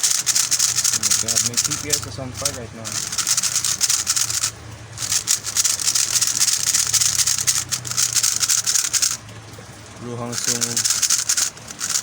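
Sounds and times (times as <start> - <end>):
puzzle cube clicking rattle: 0.0 - 9.2, 9.9 - 12.0.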